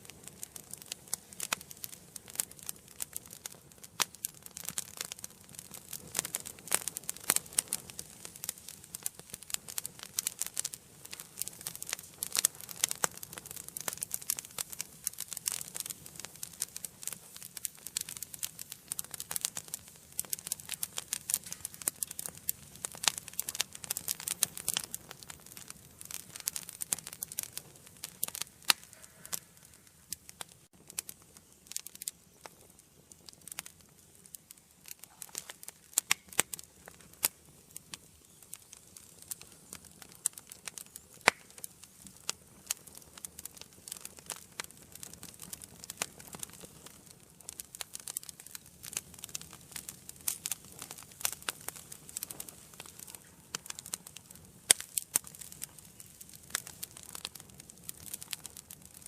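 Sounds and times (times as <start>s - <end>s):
soft fire hiss: 0.0s - 59.0s
wood fire crackling and popping: 0.0s - 59.0s.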